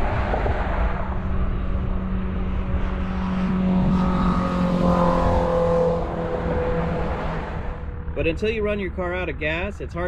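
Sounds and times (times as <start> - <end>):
vehicle engine passing: 0.0 - 9.0.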